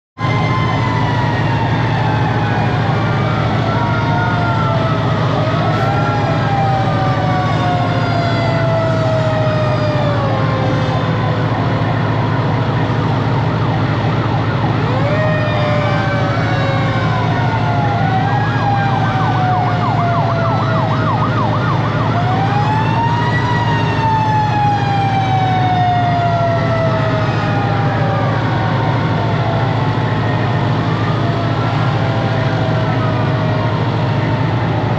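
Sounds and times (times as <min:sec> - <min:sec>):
fast warbling siren: 0:00.2 - 0:34.9
fire engine sirens wailing: 0:00.2 - 0:34.9.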